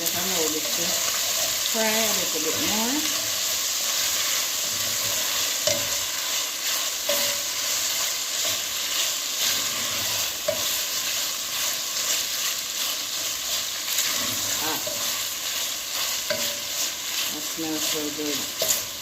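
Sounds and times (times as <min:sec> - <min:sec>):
meat sizzling in a pot: 0:00.0 - 0:19.0.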